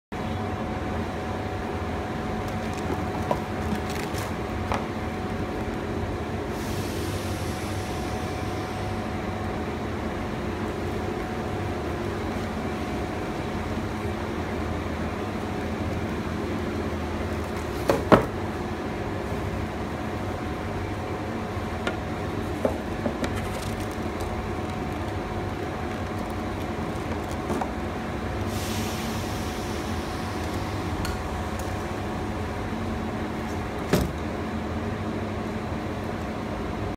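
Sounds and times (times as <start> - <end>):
steady machine hum: 0.1 - 36.9.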